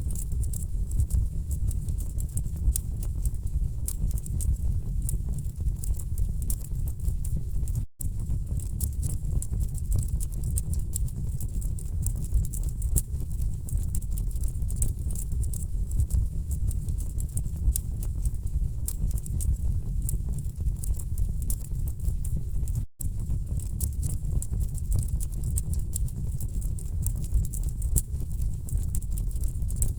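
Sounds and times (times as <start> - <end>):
low rumble of burning logs: 0.1 - 29.9.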